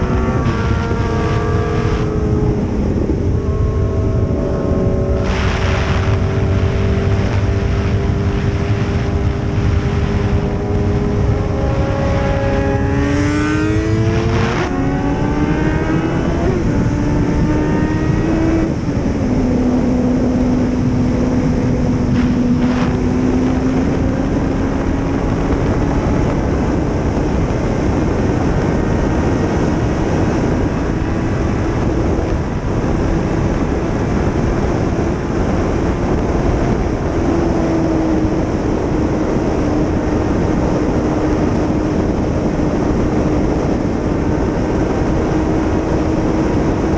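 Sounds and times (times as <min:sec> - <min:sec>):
constant rushing noise: 0:00.0 - 0:46.9
racing motorcycle engines: 0:00.0 - 0:46.9.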